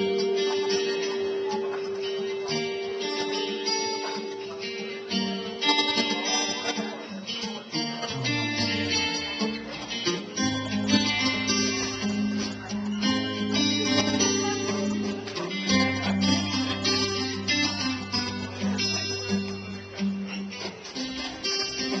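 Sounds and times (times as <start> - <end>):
bass guitar: 0.0 - 22.0
picked guitar line: 0.0 - 22.0.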